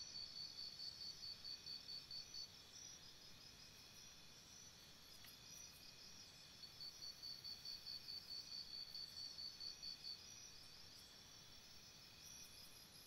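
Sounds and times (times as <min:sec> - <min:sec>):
insects chirping in a pulsed trill: 0:00.0 - 0:13.0
high insect drone: 0:00.1 - 0:13.0.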